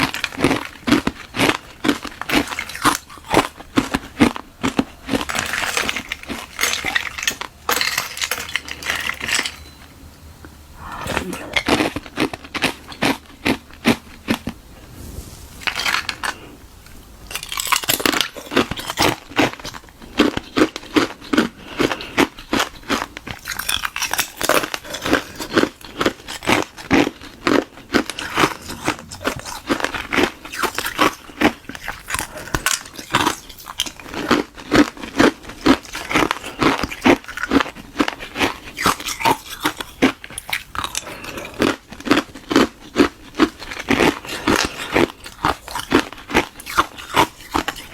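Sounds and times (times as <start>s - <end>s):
ice crunching between teeth: 0.0s - 9.6s, 10.8s - 14.6s, 17.3s - 47.9s.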